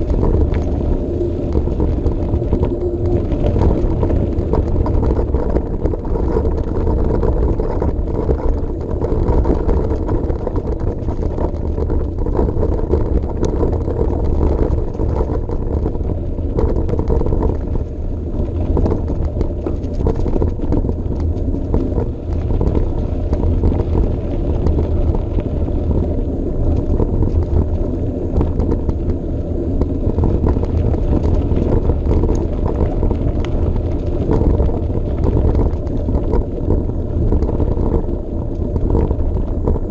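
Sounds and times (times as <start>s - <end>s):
mountain bike rolling along path: 0.0s - 39.9s
wind buffeting microphone: 0.0s - 39.9s.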